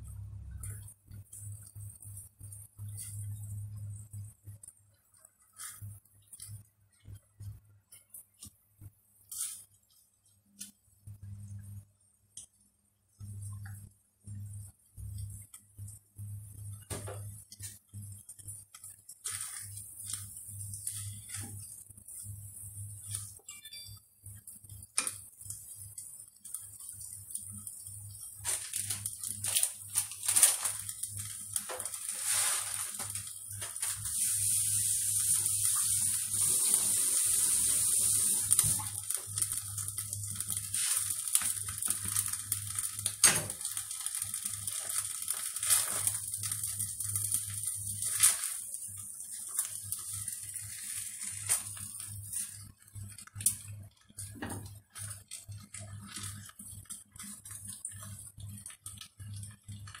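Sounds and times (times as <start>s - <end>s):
rice sizzling in a pot: 0.0s - 60.0s.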